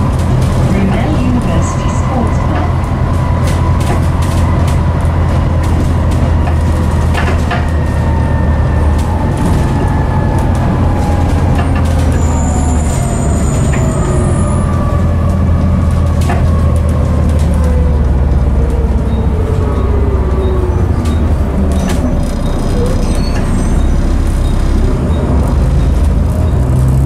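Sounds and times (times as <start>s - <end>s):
bus body rattles: 0.0s - 27.0s
bus diesel engine drone: 0.0s - 27.0s.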